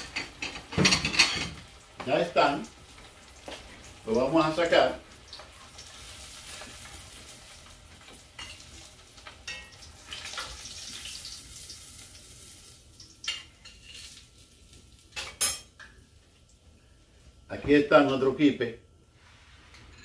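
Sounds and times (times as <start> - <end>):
food sizzling in hot oil: 0.0 - 16.2.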